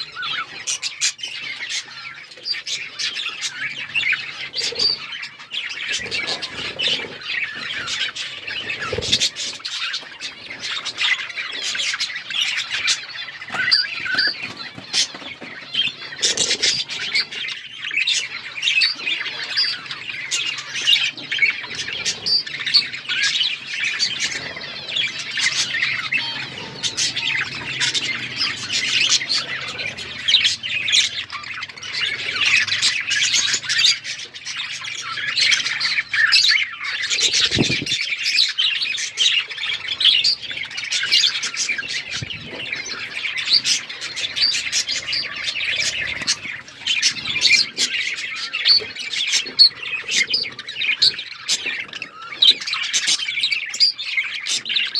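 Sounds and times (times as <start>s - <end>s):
budgerigars chirping and squawking: 0.0s - 54.9s.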